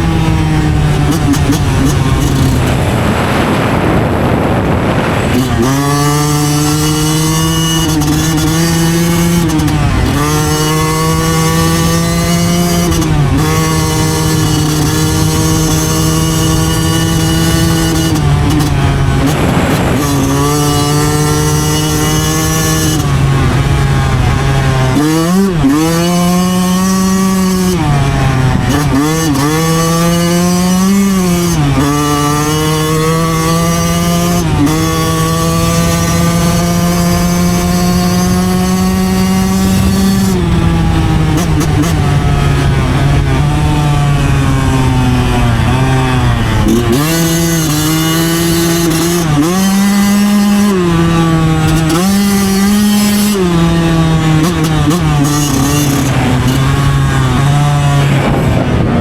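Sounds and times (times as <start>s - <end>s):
rush of noise: 0.0s - 59.0s
two-stroke engine revving hard: 0.0s - 59.0s.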